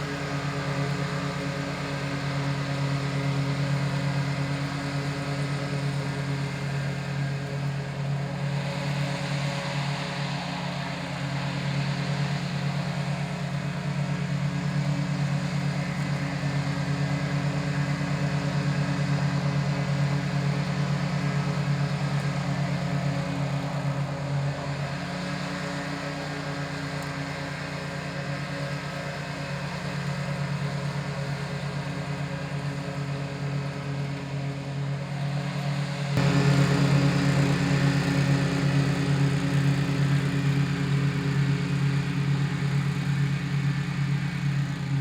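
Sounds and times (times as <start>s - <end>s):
mower petrol engine running: 0.0s - 45.0s.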